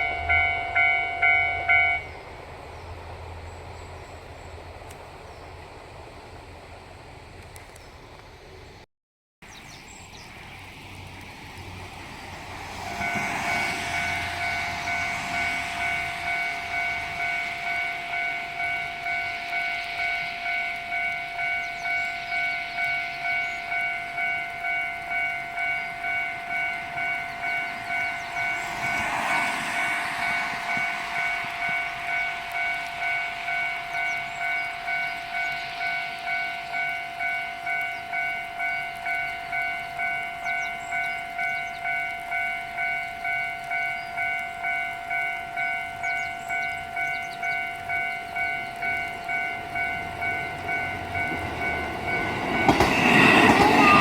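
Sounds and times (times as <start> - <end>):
level crossing warning bell: 0.0 - 2.1, 12.6 - 54.0.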